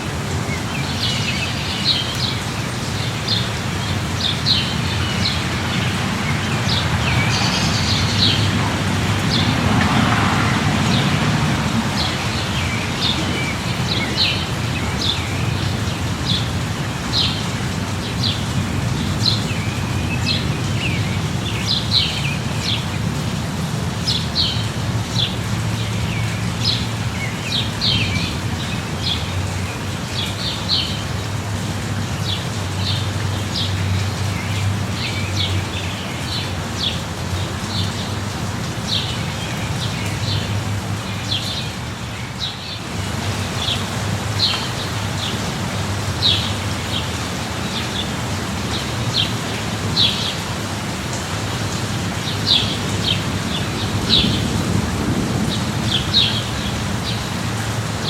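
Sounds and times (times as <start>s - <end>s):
steady rain: 0.0s - 58.0s
songbirds chirping: 0.2s - 54.6s.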